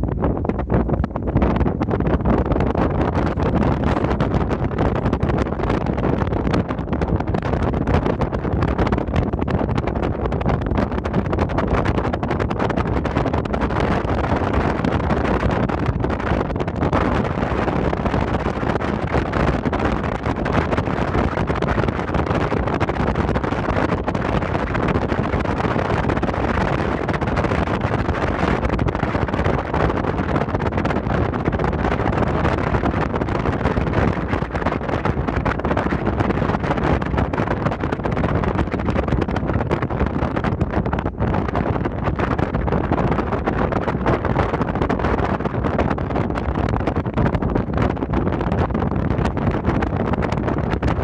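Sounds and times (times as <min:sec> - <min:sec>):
wind noise on microphone: 0:00.0 - 0:51.0.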